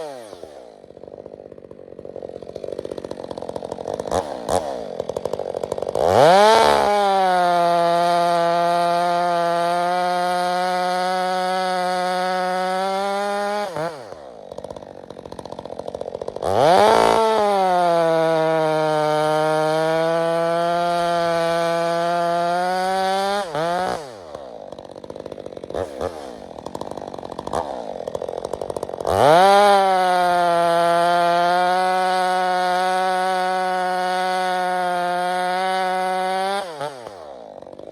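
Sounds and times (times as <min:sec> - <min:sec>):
chainsaw revving and idling: 0:00.0 - 0:37.9.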